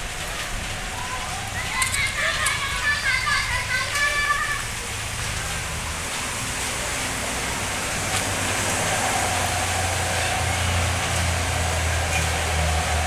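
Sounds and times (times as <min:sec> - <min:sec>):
bus diesel engine rumbling: 0:00.0 - 0:13.0
road hiss: 0:00.0 - 0:13.0.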